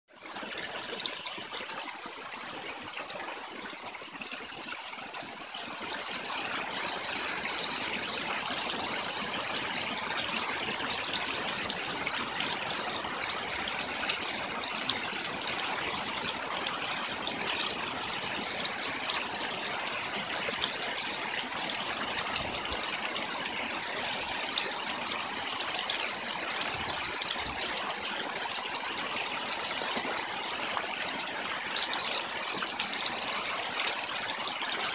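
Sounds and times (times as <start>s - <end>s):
stream rushing over rocks: 0.1s - 34.9s.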